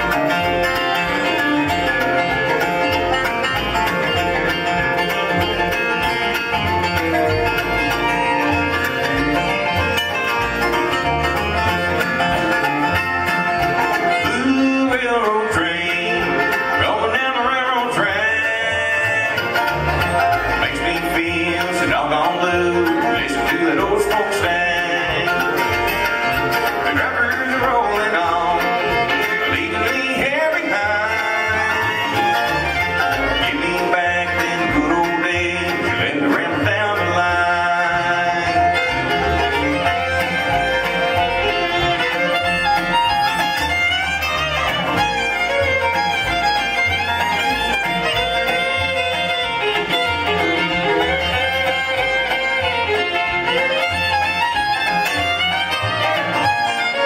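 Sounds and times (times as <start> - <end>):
bluegrass band playing: 0.0 - 57.0
fiddle: 0.0 - 57.0.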